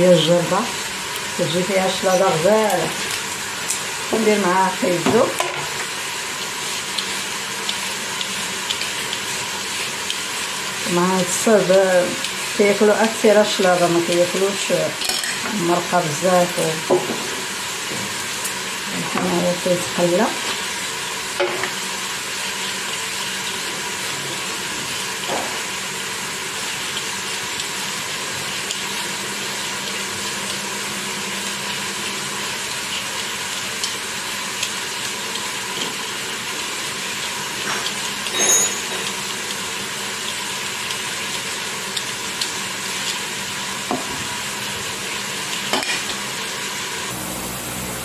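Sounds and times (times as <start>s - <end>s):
food sizzling in a pot: 0.0s - 48.0s.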